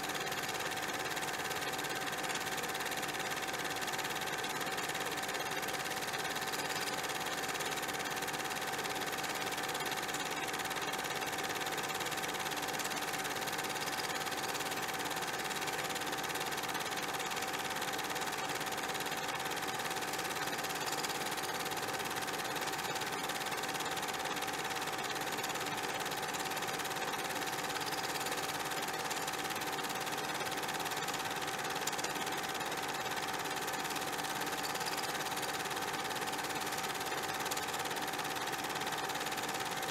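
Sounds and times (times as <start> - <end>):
small machine whirring: 0.0 - 39.9.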